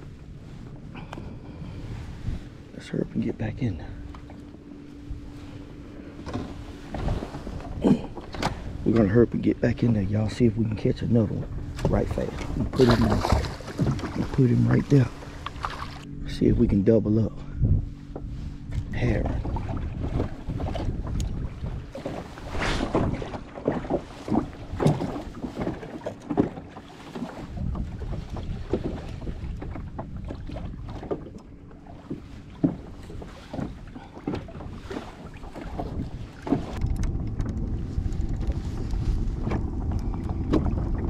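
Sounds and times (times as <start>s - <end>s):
water slapping against boat: 0.0s - 41.0s
wind rumbling on microphone: 0.0s - 41.0s
boat knocking: 3.2s - 41.0s.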